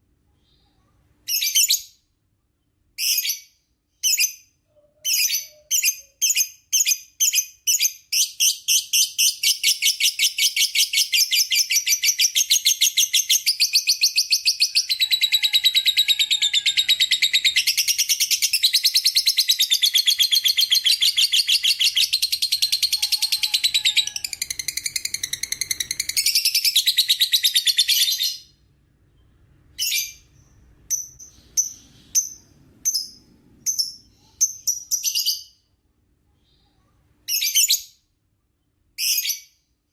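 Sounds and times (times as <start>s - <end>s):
lovebird chirping and trilling: 0.4s - 2.1s, 3.0s - 28.6s, 29.7s - 35.6s, 36.6s - 38.0s, 39.0s - 39.7s.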